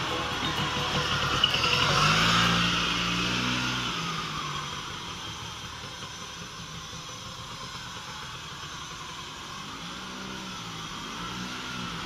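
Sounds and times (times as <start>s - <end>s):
scooter engine pulling away: 0.0s - 12.0s.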